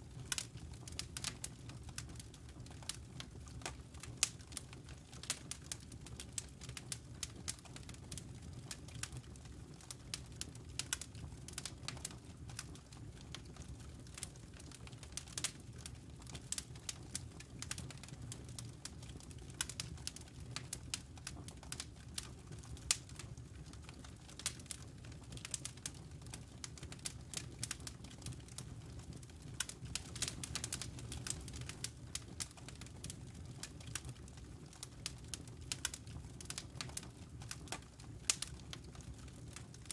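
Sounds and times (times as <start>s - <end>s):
campfire crackling: 0.1s - 39.9s.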